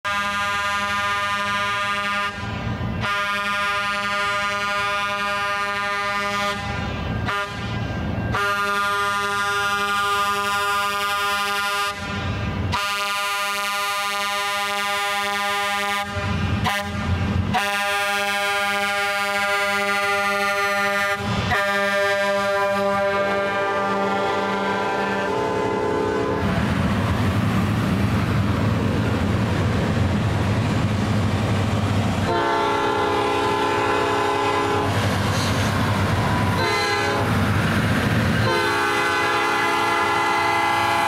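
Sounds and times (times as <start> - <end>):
train air horn blasts: 0.1 - 26.6, 32.2 - 35.6, 36.3 - 37.4, 38.4 - 41.0.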